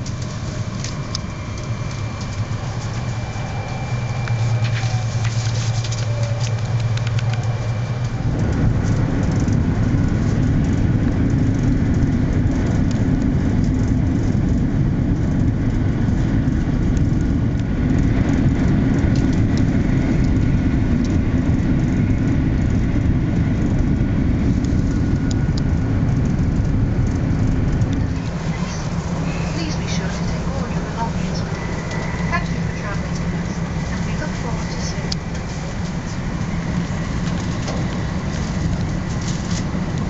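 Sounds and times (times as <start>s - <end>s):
low humming tone: 0.0s - 40.0s
train wheels rumbling on rail: 0.0s - 40.0s.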